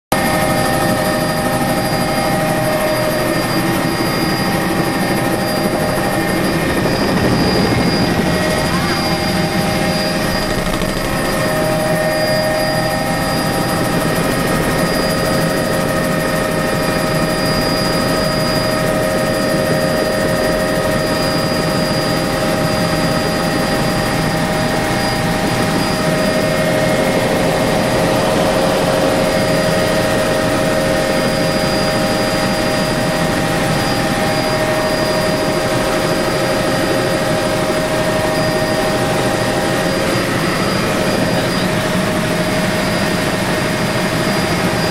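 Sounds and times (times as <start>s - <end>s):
helicopter engine and rotor noise: 0.1s - 44.9s
high whines: 0.2s - 44.9s.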